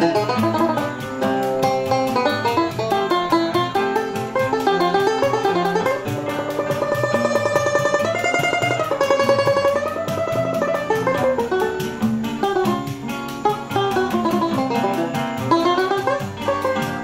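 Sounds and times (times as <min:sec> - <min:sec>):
acoustic guitar accompaniment: 0:00.0 - 0:17.0
banjo tremolo melody: 0:00.0 - 0:17.0.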